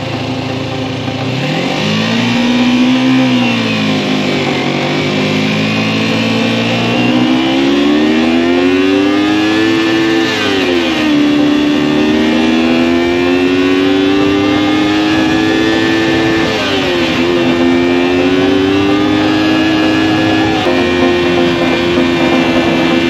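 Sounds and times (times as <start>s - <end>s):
motorcycle engine revving: 0.2s - 23.0s.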